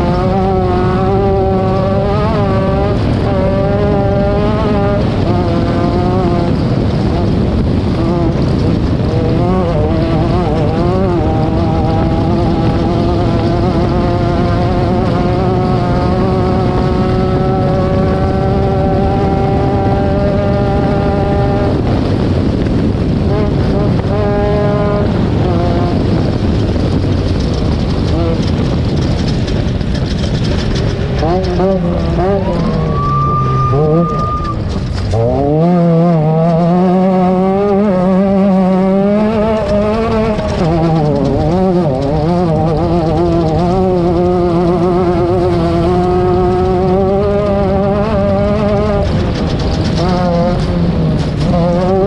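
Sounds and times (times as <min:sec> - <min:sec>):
heavy low rumble: 0:00.0 - 0:52.0
race vehicle engine at high revs: 0:00.0 - 0:52.0.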